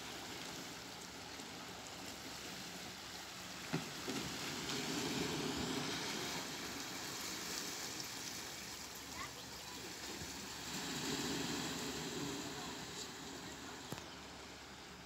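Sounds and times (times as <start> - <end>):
waves washing onto shore: 0.0 - 15.0.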